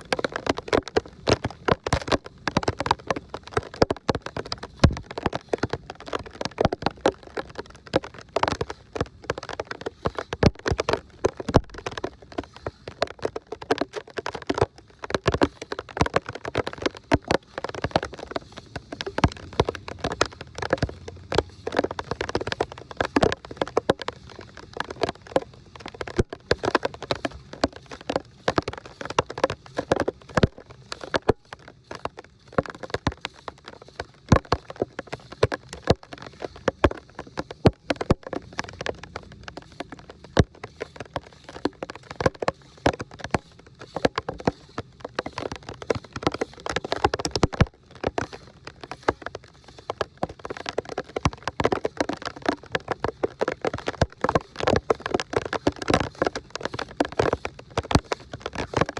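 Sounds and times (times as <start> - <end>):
water pattering and splashing: 0.0 - 58.9.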